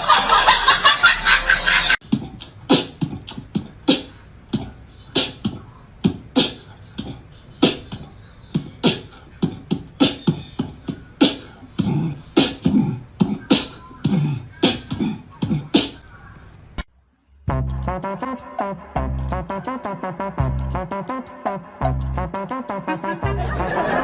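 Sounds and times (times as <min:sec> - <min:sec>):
rhythmic percussive beat: 0:00.0 - 0:16.0, 0:17.5 - 0:24.0.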